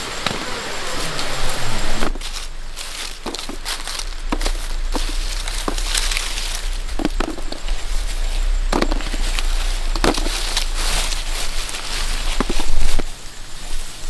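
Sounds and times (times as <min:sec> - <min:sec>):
dry leaves crackling and rustling: 0:00.0 - 0:14.0.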